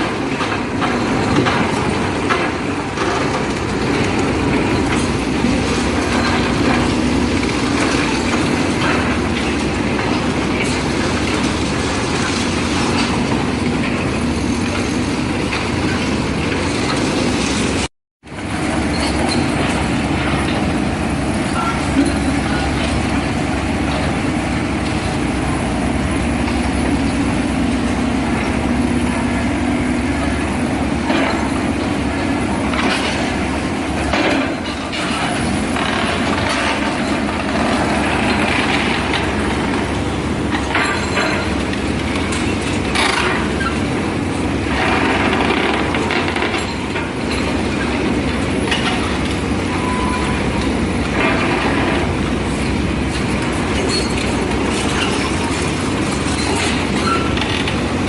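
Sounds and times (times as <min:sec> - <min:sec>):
loud mechanical rumble: 0:00.0 - 0:58.0.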